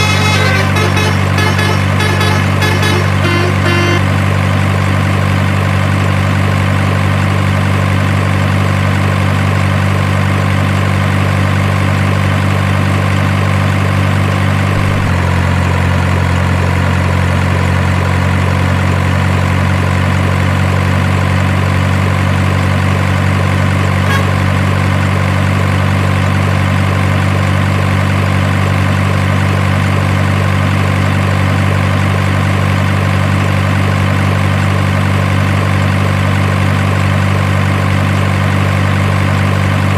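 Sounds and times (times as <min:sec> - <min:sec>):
model engine sound idling: 0:00.0 - 0:39.9.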